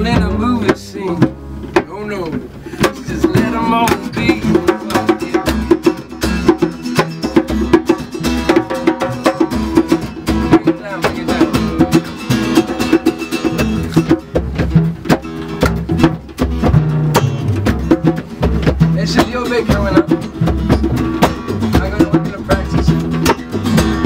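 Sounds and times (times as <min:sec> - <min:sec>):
acoustic guitar strummed: 0:00.0 - 0:24.0
sharp percussive attacks: 0:00.2 - 0:24.0.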